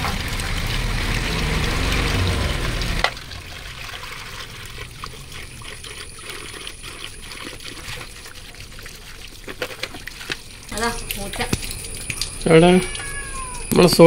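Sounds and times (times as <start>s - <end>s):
faint water drips: 0.0s - 14.0s
water pouring: 0.0s - 14.0s.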